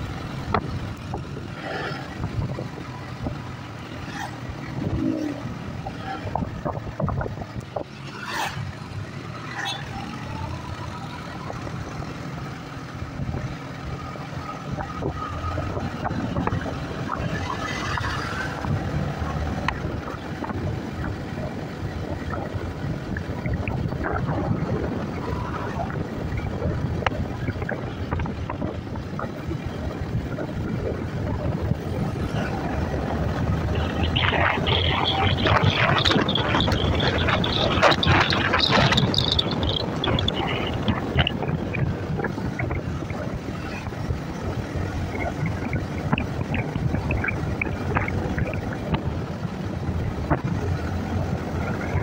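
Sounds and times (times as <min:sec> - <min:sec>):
rushing wind noise: 0:00.0 - 0:52.0.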